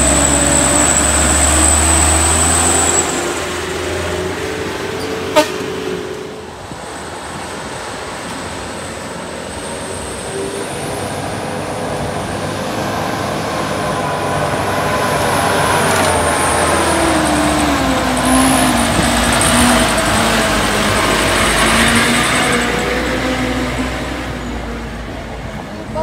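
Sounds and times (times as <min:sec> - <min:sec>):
truck diesel engine under load: 0:00.0 - 0:26.0.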